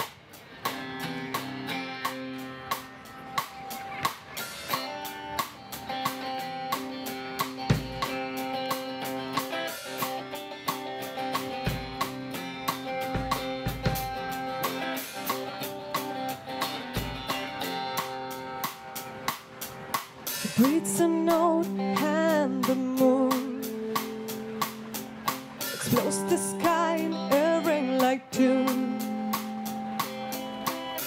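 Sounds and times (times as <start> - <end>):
steady drum beat: 0.0 - 31.0
guitar playing sustained chords: 0.3 - 31.0.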